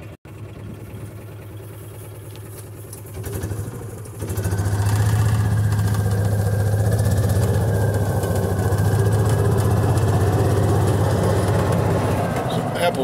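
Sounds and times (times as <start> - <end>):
engine with noisy exhaust: 0.0 - 13.0.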